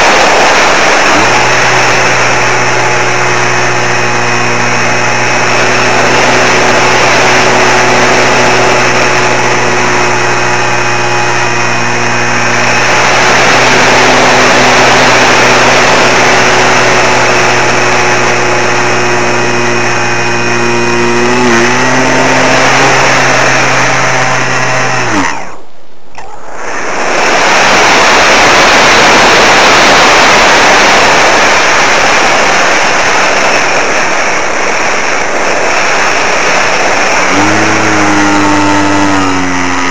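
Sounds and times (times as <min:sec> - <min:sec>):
model plane motor whining: 0:00.0 - 0:39.9
rushing air noise: 0:00.0 - 0:39.9.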